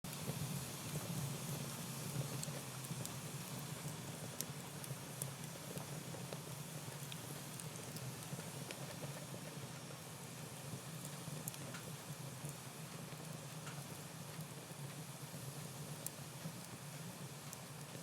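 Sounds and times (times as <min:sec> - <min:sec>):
fire crackling and popping: 0:00.1 - 0:18.0
wood fire hissing: 0:00.1 - 0:18.0.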